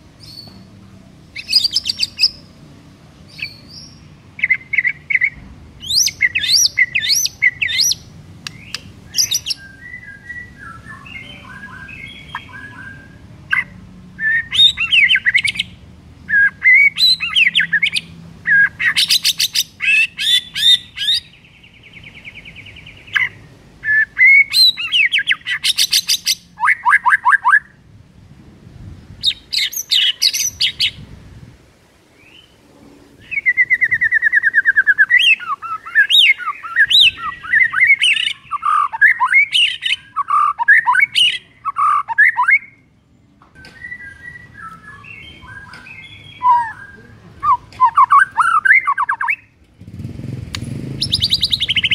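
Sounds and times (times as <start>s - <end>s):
bird singing whistles and trills: 1.4s - 2.5s, 3.3s - 27.8s, 29.2s - 31.0s, 33.2s - 42.8s, 43.6s - 49.6s, 50.8s - 51.9s.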